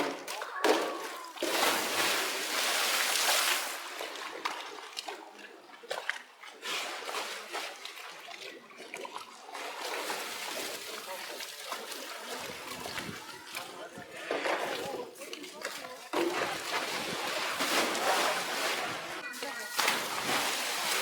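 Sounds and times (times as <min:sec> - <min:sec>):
bear cubs splashing in water: 0:00.0 - 0:21.0.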